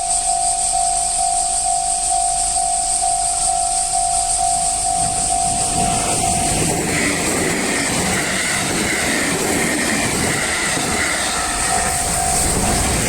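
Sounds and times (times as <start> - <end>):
high whine: 0.0 - 13.0
level crossing warning bell: 0.0 - 13.0
train wheels rolling on rails: 0.0 - 13.0.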